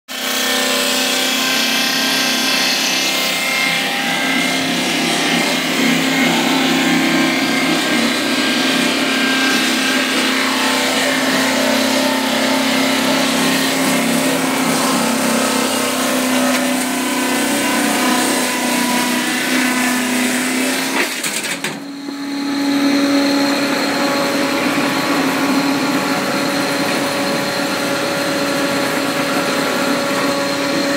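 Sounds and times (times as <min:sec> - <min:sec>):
machine rushing and humming: 0:01.8 - 0:30.9.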